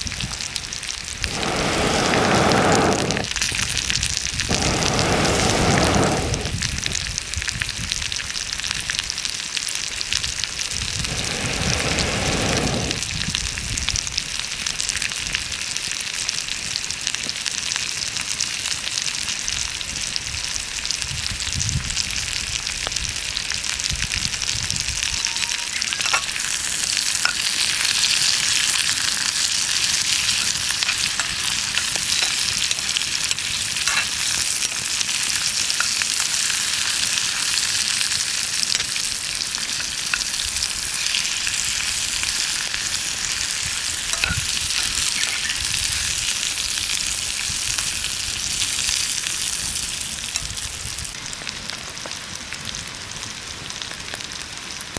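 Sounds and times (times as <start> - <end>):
food sizzling in a pan: 0.0 - 54.9.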